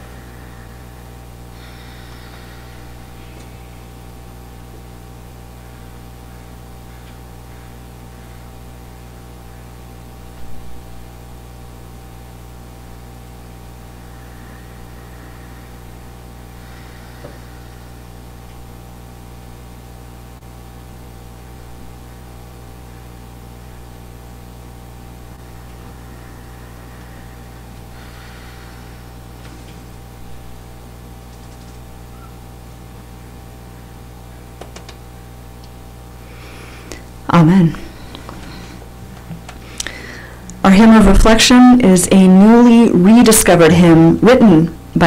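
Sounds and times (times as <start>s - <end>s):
electrical hum with hiss: 0.0s - 45.0s.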